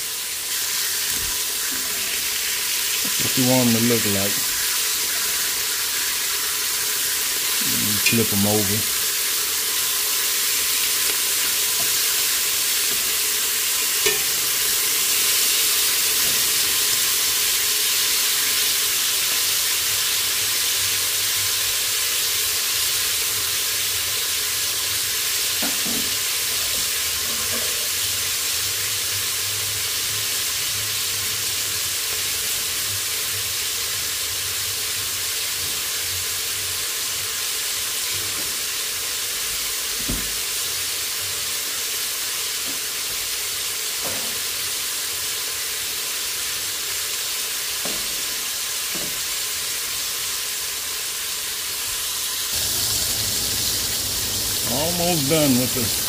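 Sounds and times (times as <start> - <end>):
meat sizzling in oil: 0.0 - 56.0.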